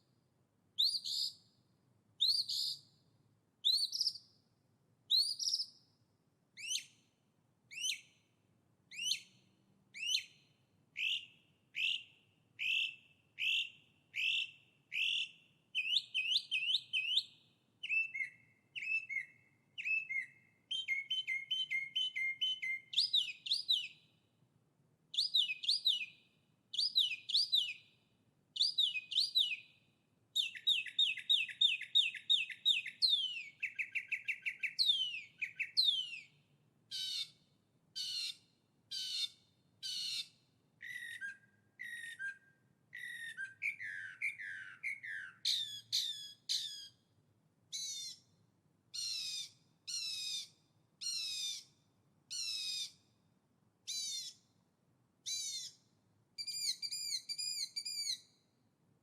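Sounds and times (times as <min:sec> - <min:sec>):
songbird singing: 0:00.8 - 0:01.6, 0:02.2 - 0:04.5, 0:05.1 - 0:06.0, 0:06.6 - 0:08.3, 0:08.9 - 0:24.3, 0:25.1 - 0:47.1, 0:47.7 - 0:53.1, 0:53.9 - 0:54.5, 0:55.2 - 0:58.5.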